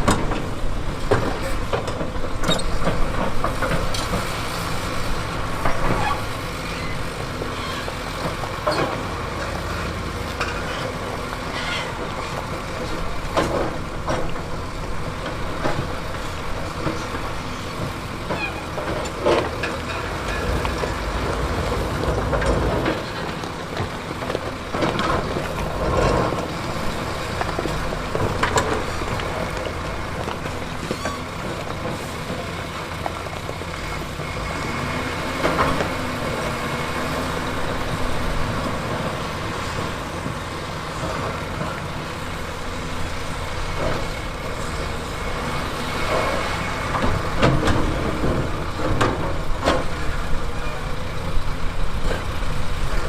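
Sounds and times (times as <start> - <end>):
machinery clanks and knocks: 0.0 - 6.4, 7.2 - 42.1, 42.9 - 53.0
diesel machinery engine rumble: 0.0 - 53.0.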